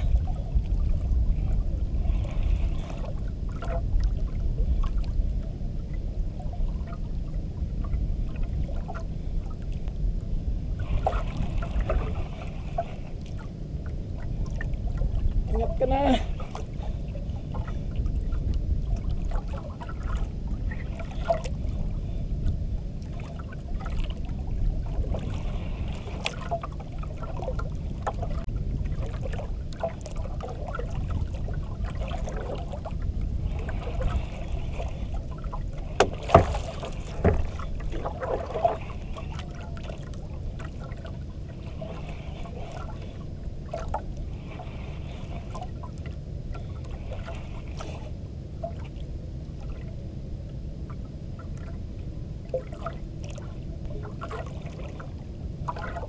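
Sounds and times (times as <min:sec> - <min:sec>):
wind and water rumble: 0:00.0 - 0:56.0.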